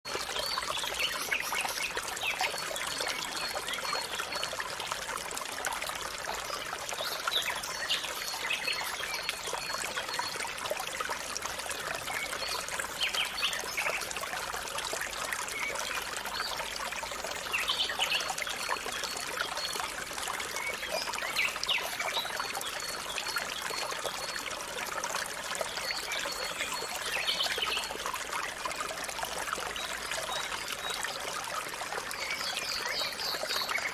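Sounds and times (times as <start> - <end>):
water trickling from a pipe: 0.1 - 33.9.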